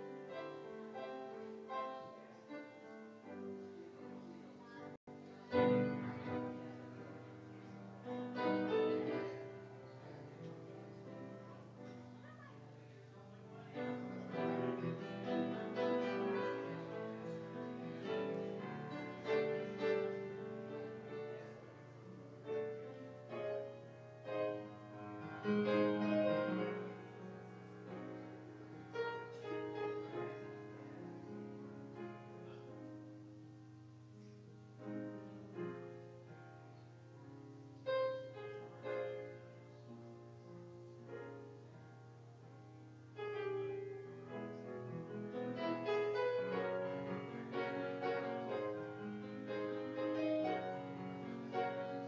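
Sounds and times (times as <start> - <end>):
piano instrumental music: 0.0 - 52.0.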